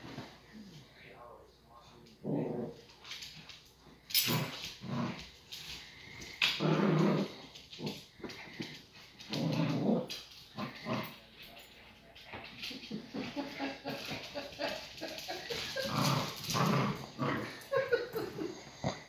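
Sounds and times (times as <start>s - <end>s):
dogs growling in play: 1.9s - 19.0s.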